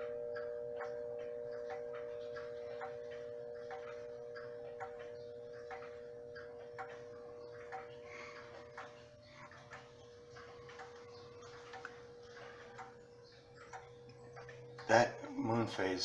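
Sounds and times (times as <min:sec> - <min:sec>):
chime tubes humming: 0:00.0 - 0:16.0
grandfather clock ticking: 0:00.0 - 0:16.0.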